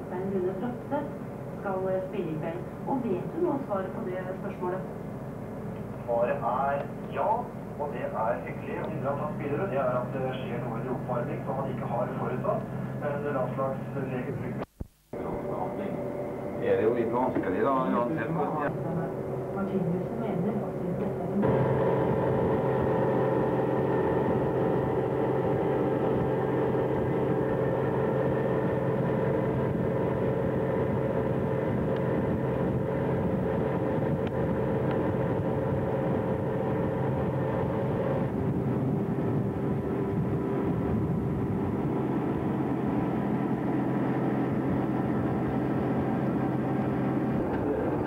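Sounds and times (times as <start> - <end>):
ship engine droning: 0.0 - 14.6, 15.2 - 48.0.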